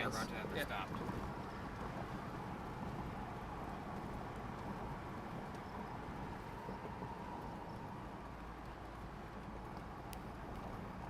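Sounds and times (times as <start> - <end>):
rushing storm wind: 0.0 - 11.0.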